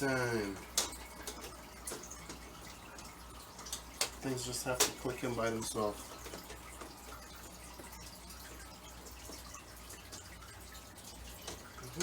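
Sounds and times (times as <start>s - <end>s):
low steady hum and hiss: 0.0s - 12.0s.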